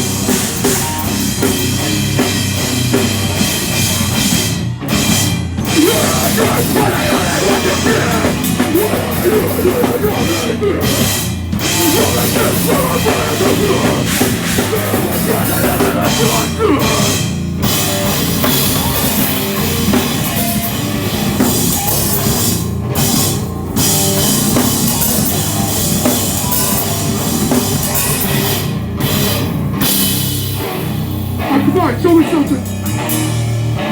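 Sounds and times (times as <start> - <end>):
distorted guitars: 0.0 - 33.9
heavy rock band playing: 0.0 - 33.9
pounding drum kit: 0.0 - 33.9.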